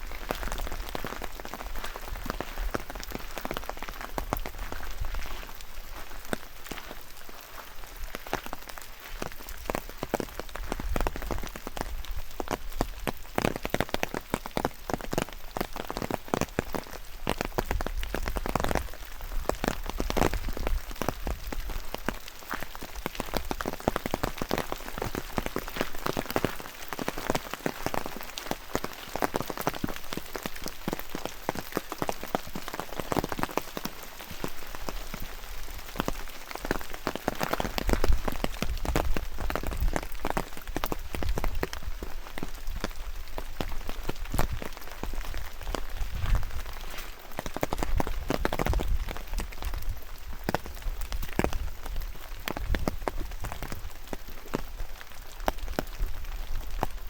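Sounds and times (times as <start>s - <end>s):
raindrops pattering: 0.0s - 57.0s
rainfall hiss: 0.0s - 57.0s.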